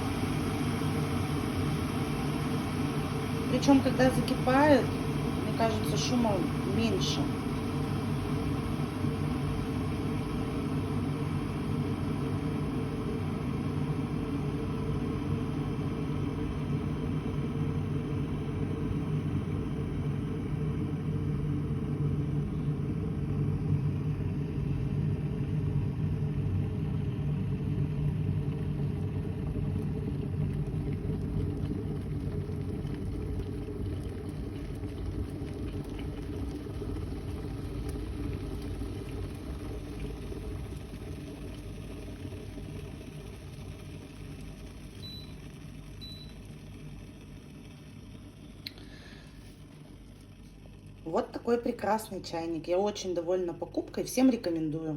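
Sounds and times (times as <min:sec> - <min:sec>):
electric kettle rumbling: 0:00.0 - 0:54.9.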